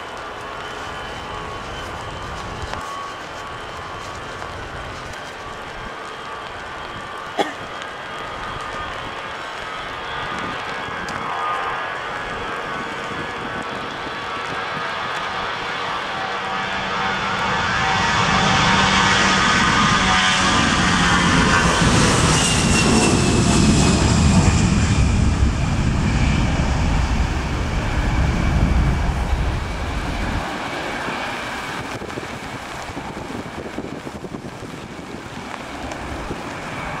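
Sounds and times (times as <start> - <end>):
jet engines at take-off: 0.0 - 37.0.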